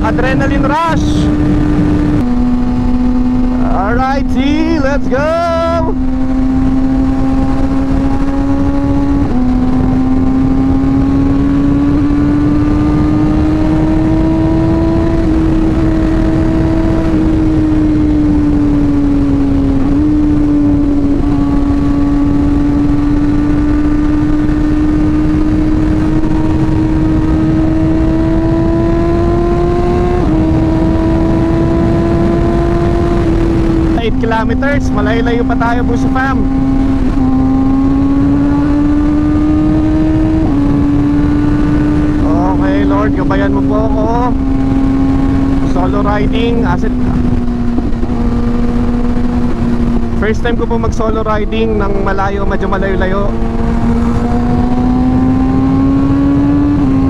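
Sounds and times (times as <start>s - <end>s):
motorcycle engine running: 0.0s - 57.0s
rush of noise: 0.0s - 57.0s.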